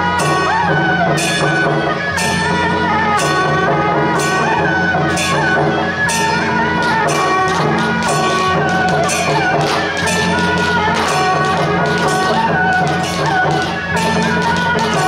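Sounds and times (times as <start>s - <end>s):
drum and cymbal strokes: 0.0s - 15.0s
high wavering wind melody: 0.0s - 15.0s.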